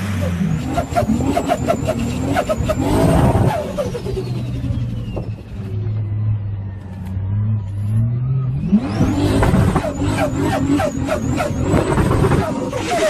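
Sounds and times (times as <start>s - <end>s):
car engine idling and revving: 0.0s - 13.0s
turbo whine: 0.0s - 13.0s.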